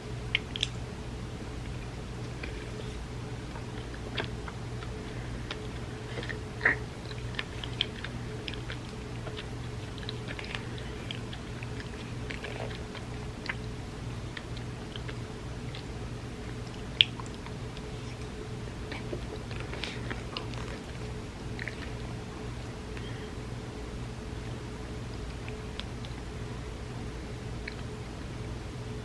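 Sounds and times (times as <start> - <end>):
steady low hum: 0.0 - 29.0
chewing and wet mouth sounds: 0.2 - 29.0.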